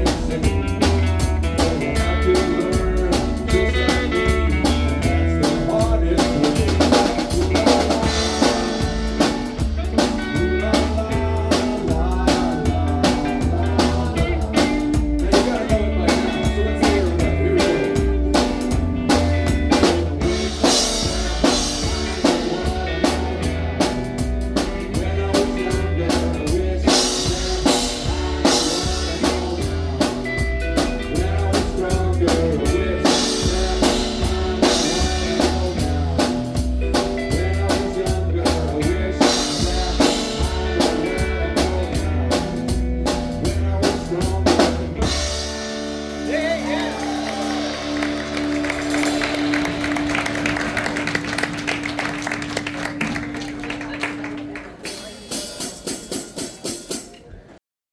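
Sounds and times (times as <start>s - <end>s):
bass line: 0.0s - 55.2s
band playing instrumental: 0.0s - 57.5s.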